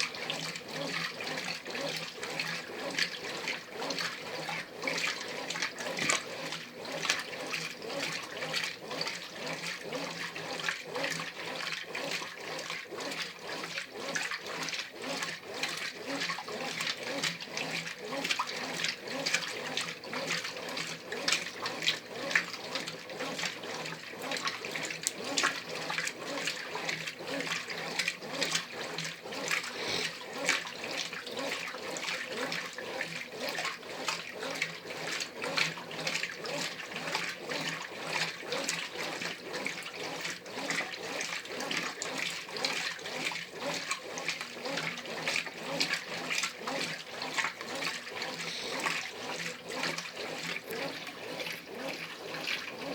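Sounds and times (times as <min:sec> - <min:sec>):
washing machine water sloshing: 0:00.0 - 0:52.9.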